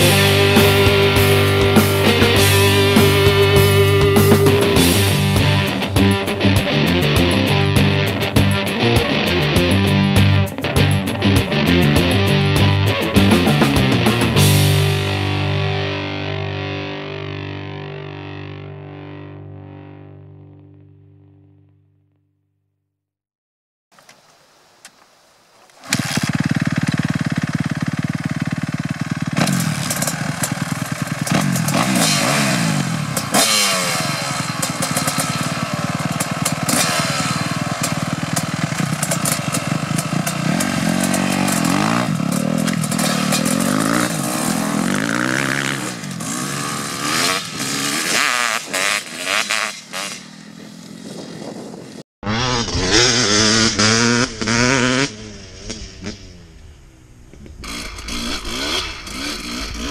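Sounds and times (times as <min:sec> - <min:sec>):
dirt bike engines revving: 0:00.0 - 0:15.9, 0:25.8 - 0:59.9
dirt bike riding at speed: 0:00.0 - 0:16.3, 0:25.8 - 0:59.9.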